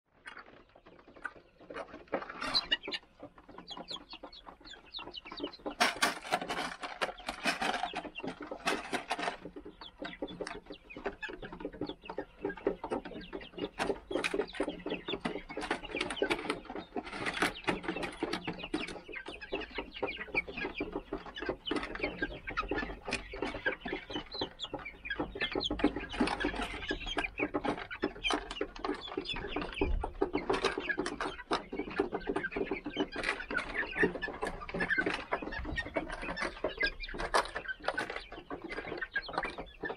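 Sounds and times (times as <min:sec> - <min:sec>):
chicks chirping and clucking: 0:00.1 - 0:39.9.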